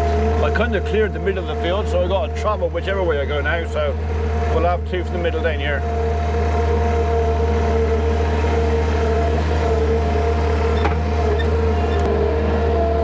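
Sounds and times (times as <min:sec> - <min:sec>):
engine low drone: 0:00.0 - 0:13.0.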